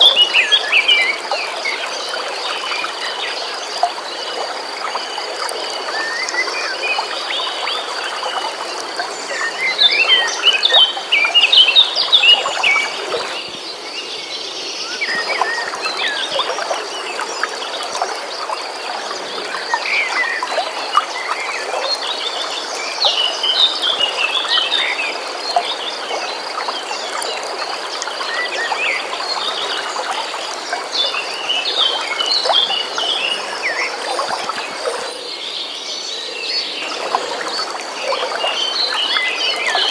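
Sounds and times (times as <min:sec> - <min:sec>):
running water: 0:00.0 - 0:39.9
songbirds singing: 0:00.0 - 0:39.9.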